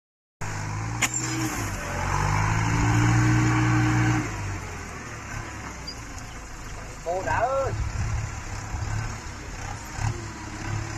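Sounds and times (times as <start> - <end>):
tractor engine under load: 0.6 - 10.9.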